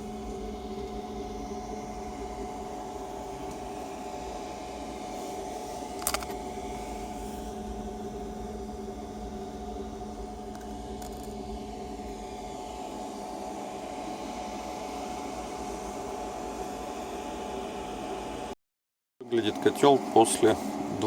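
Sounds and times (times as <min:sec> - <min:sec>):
mechanical hum with whirring hiss: 0:00.0 - 0:18.6, 0:19.2 - 0:21.0.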